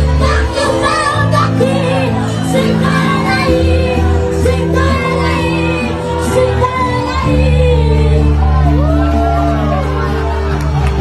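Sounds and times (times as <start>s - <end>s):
music with singing voices: 0.0s - 11.0s.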